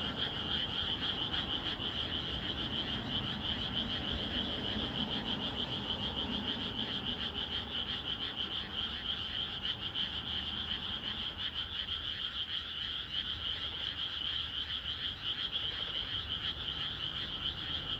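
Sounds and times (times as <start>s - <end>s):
chorus of frogs calling: 0.0s - 17.9s.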